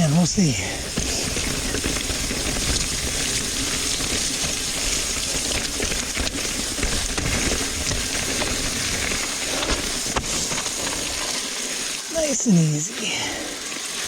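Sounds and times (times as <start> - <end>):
bike tyres hissing through mud: 0.0 - 14.0.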